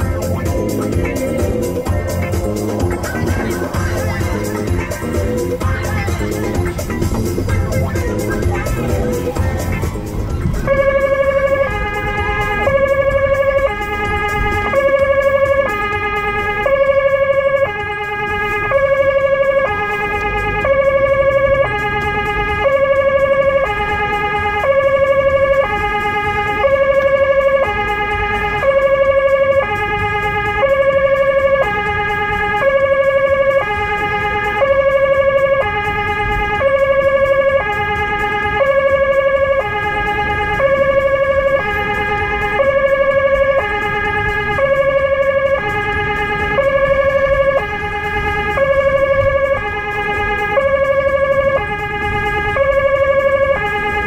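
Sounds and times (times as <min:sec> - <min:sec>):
two-tone emergency siren: 0:00.0 - 0:54.0.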